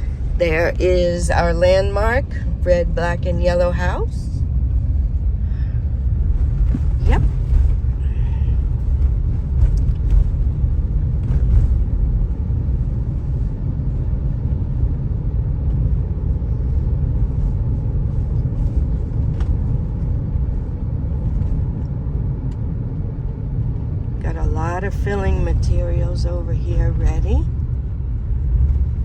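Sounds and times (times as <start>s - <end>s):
car driving rumble from inside: 0.0s - 29.0s.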